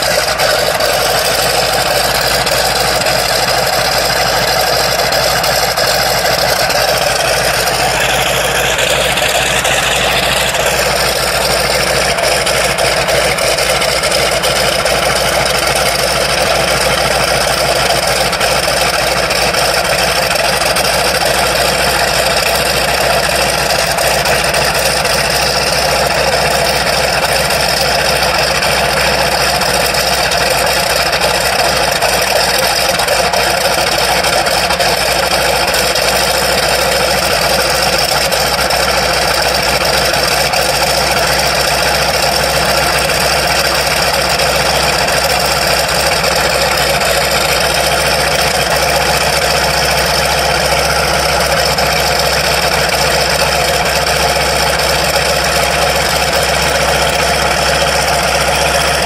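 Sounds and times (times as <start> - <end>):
radial aircraft engine idling: 0.0 - 59.0.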